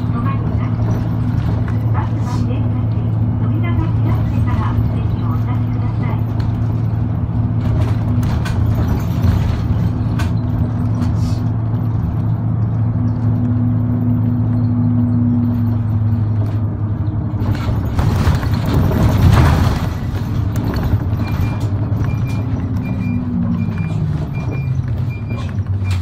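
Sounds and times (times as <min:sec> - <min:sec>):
bus engine drone: 0:00.0 - 0:26.0.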